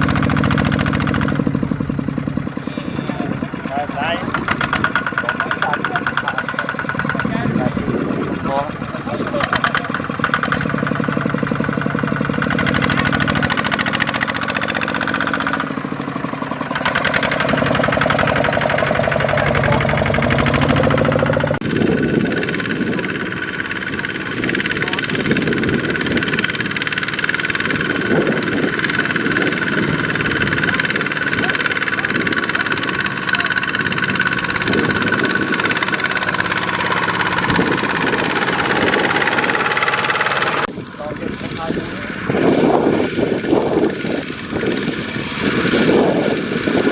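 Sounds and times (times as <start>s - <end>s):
diesel tractor engine knocking: 0.0s - 46.9s.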